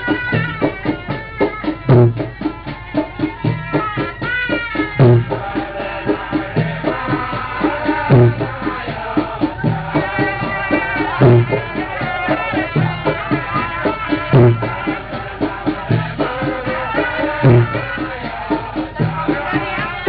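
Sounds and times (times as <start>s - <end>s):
deep drum hits: 0.0s - 20.0s
fast percussion: 0.0s - 20.0s.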